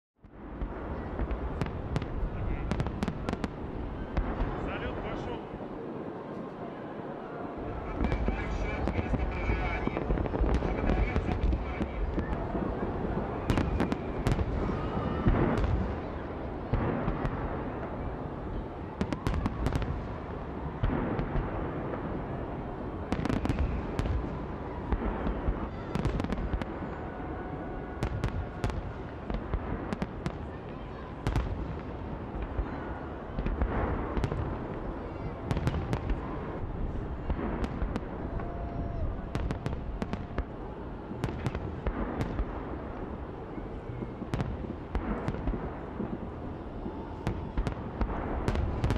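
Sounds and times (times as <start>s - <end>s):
fireworks rumble and bangs: 0.2s - 48.9s.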